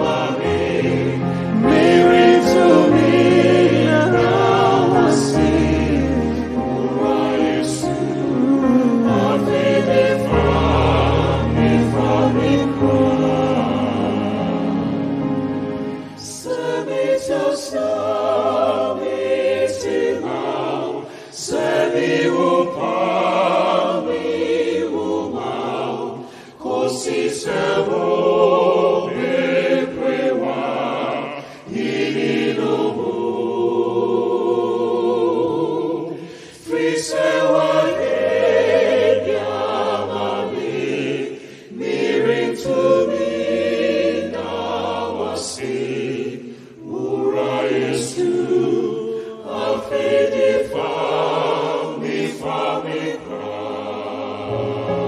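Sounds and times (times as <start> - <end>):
backing singers: 0.0 - 15.2, 16.0 - 55.0.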